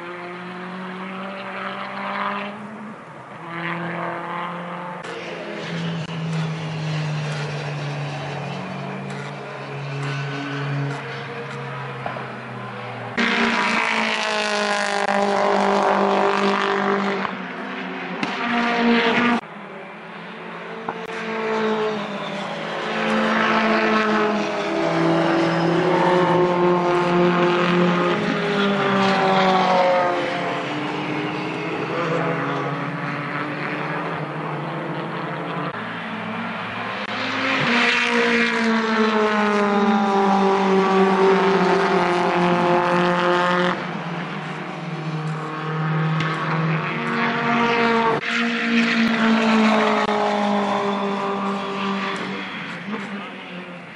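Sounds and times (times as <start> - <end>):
race cars passing at speed: 0.0 - 53.9.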